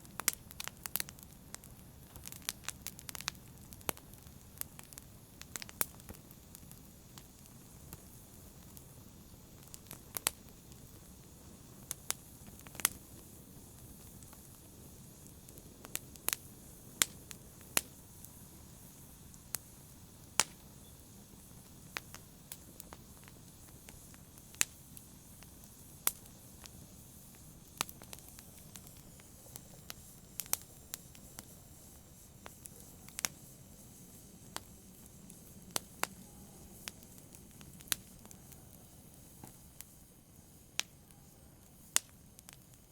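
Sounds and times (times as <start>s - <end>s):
burning wood crackling and popping: 0.0s - 42.9s
flames hissing: 0.0s - 42.9s.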